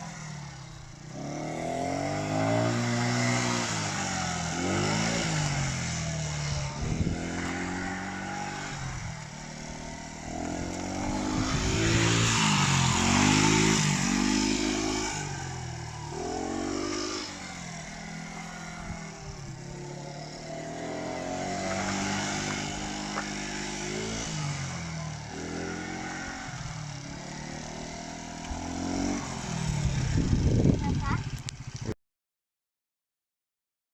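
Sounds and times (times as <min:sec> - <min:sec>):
scooter engine revving: 0:00.0 - 0:32.0.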